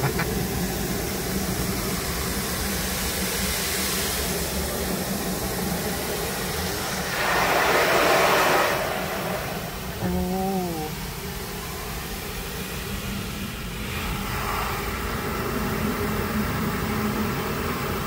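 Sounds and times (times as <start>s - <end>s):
car wash water jets spraying: 0.0s - 18.0s.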